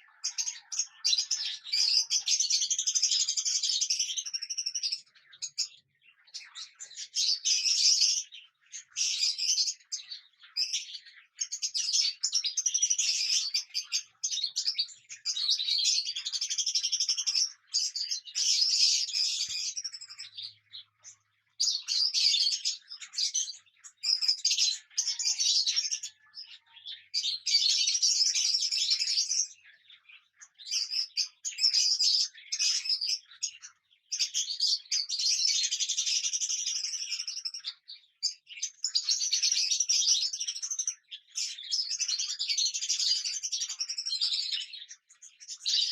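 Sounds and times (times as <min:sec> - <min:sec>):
cockatiels chirping and chattering: 0:00.0 - 0:45.9.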